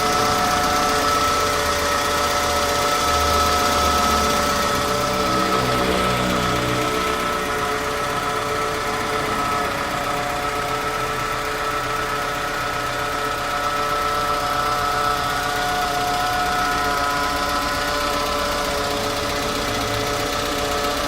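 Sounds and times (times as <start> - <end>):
car engine running: 0.0 - 21.0
power steering pump whine: 0.0 - 21.0.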